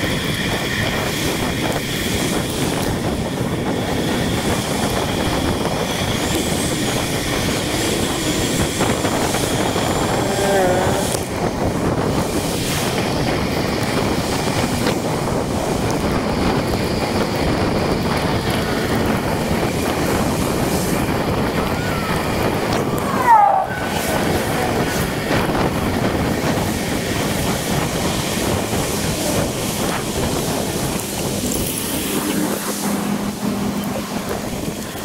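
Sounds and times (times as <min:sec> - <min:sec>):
passing traffic: 0:00.0 - 0:35.0
tyres on wet road: 0:00.0 - 0:35.0
wind buffeting microphone: 0:00.0 - 0:35.0.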